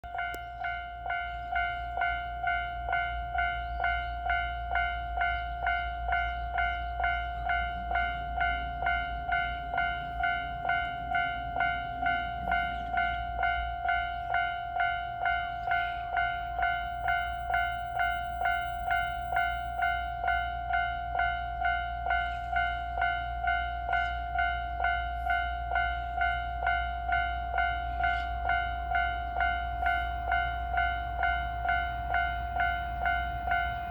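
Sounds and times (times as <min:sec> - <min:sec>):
level crossing alarm ringing: 0:00.0 - 0:33.9.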